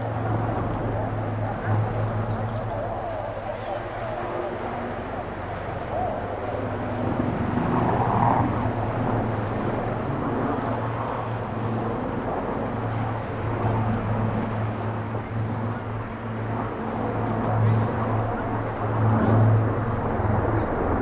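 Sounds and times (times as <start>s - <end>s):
aircraft engine drone: 0.0s - 21.0s.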